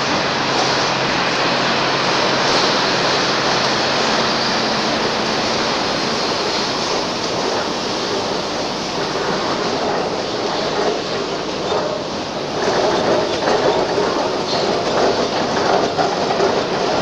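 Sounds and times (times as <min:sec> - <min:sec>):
industrial machinery roaring: 0:00.0 - 0:17.0.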